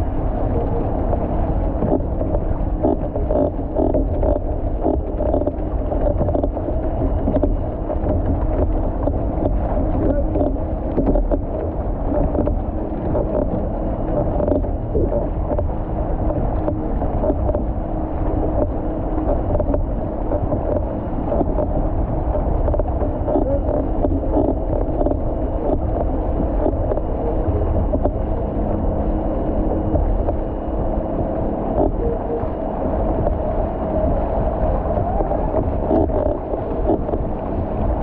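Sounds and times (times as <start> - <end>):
motorboat engine drone: 0.0 - 38.0
water rushing along canoe hull: 0.0 - 38.0
wind buffeting microphone: 0.0 - 38.0.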